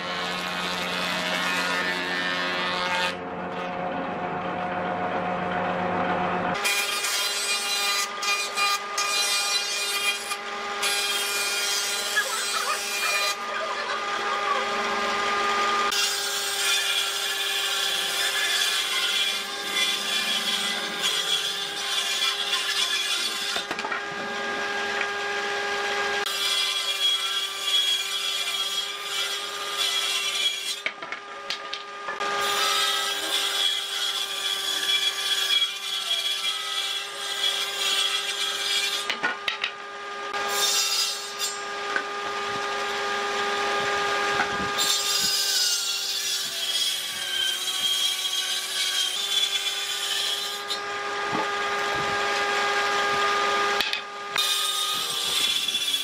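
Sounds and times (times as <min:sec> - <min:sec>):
jointer-planer planing wood: 0:00.0 - 0:03.9, 0:06.5 - 0:56.0.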